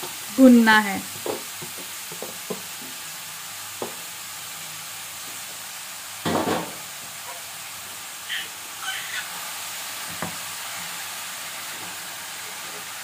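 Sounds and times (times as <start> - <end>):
carrots sizzling in hot fat: 0.0 - 13.0.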